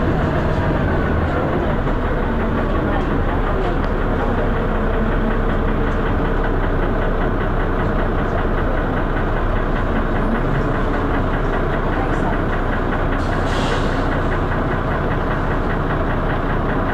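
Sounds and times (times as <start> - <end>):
diesel bus engine knocking: 0.0 - 16.9.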